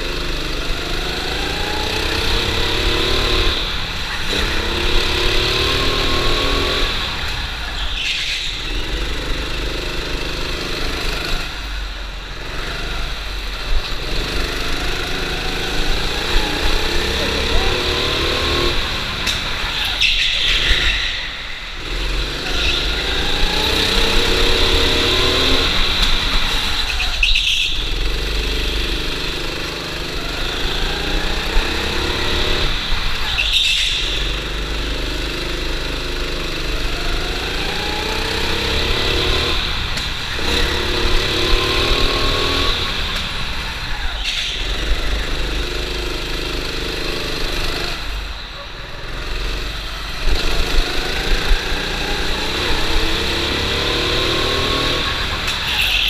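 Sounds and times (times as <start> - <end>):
go-kart engine accelerating: 0.0 - 56.0.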